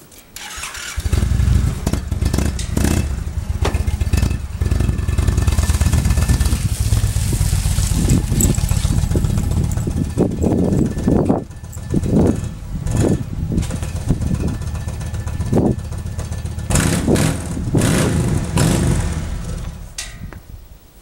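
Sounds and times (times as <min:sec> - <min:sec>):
motorcycle engine starting and running: 0:00.4 - 0:20.0.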